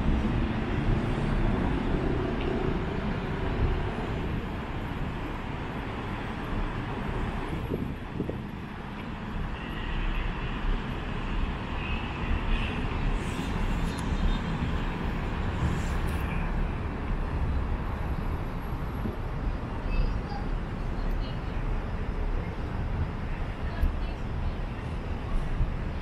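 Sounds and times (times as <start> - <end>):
city road traffic rumble: 0.0 - 26.0.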